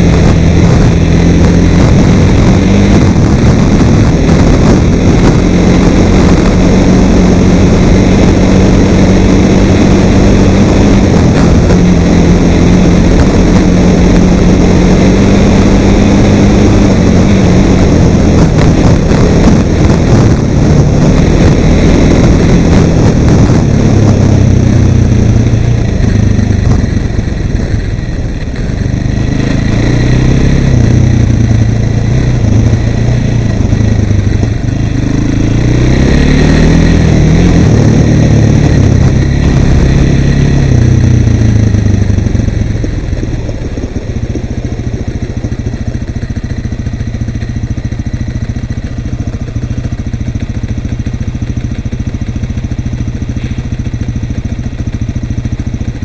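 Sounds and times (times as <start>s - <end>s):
quad bike engine revving and idling: 0.0s - 56.0s.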